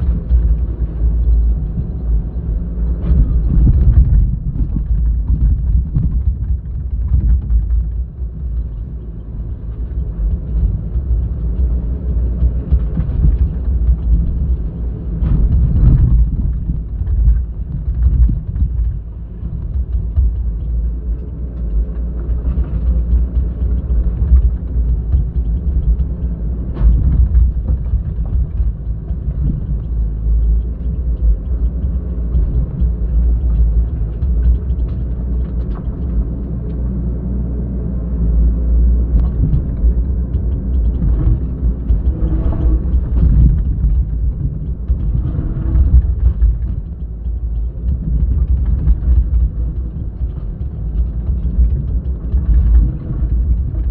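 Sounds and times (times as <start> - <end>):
excavator diesel engine rumbling: 0.0 - 53.9.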